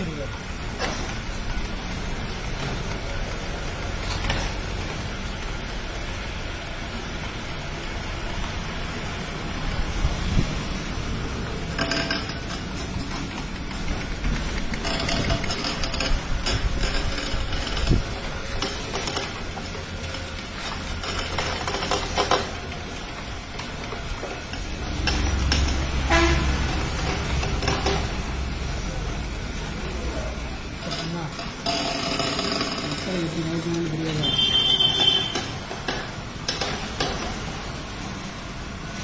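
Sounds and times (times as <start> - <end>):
stone mill rumbling: 0.0 - 39.0.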